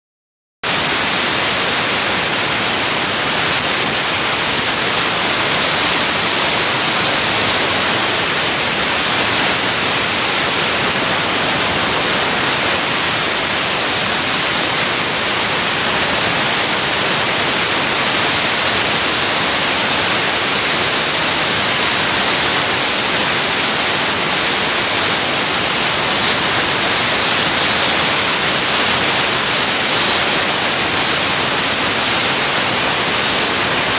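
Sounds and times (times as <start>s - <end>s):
dry ice blaster hissing: 0.6s - 33.9s.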